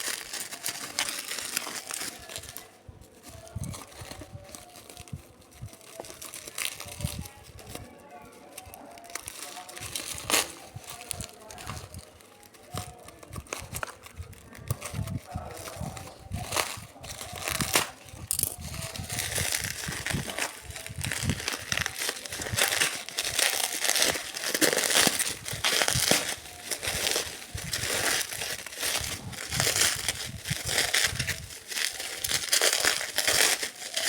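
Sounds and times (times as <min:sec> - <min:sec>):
packaging crinkling: 0:00.0 - 0:34.0.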